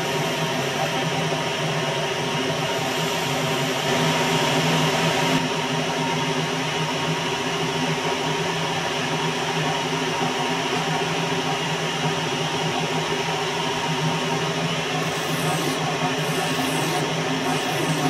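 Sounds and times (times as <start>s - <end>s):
metal lathe humming and whining: 0.0s - 18.0s.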